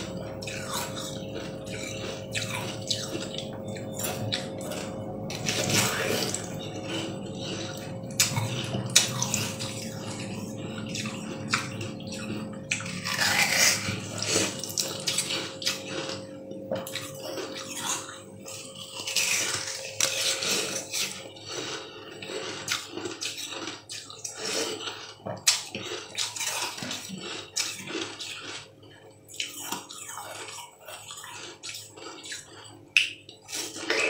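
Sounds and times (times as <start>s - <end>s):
crunching and chewing ice: 0.0s - 34.0s.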